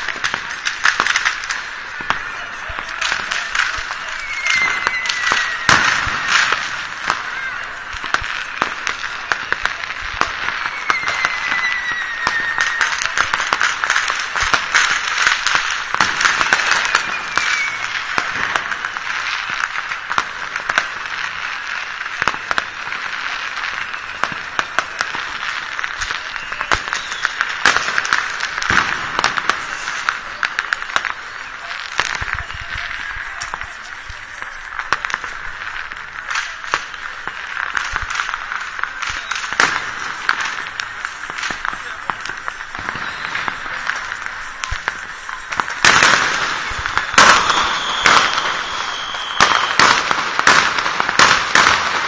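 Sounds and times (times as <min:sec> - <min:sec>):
fireworks crackling and banging: 0:00.0 - 0:52.0
fireworks whistling: 0:00.0 - 0:52.0.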